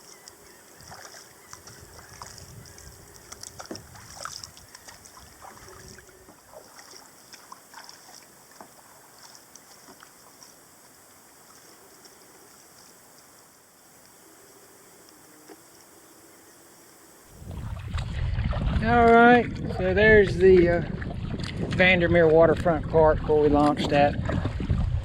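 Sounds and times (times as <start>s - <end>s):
paddle splashing in water: 0.0s - 14.0s, 17.2s - 25.0s.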